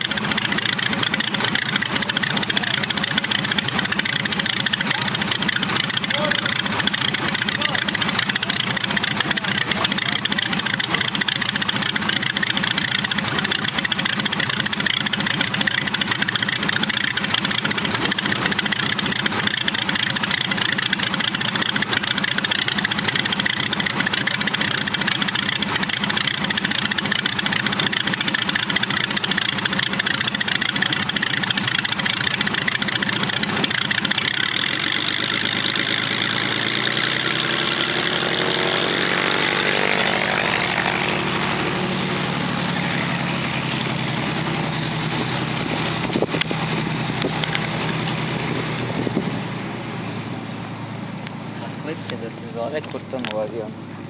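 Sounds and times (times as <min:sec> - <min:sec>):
propeller aircraft engine running: 0:00.0 - 0:54.0.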